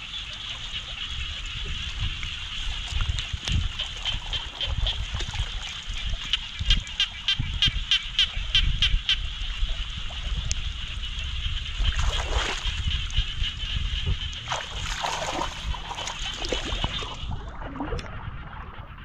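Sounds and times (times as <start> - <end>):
rapid pulsed animal calls: 0.0 - 19.0
water splashing and sloshing: 0.0 - 19.0.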